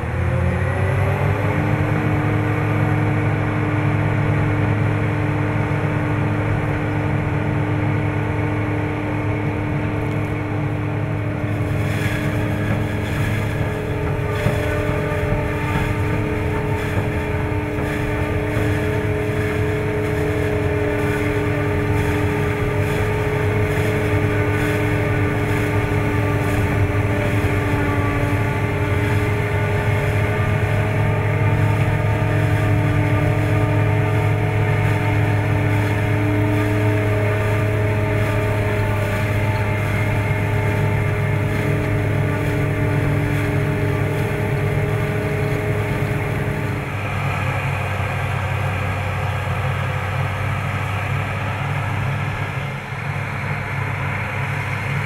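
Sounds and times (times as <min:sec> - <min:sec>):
forage harvester engine drone: 0:00.0 - 0:55.0.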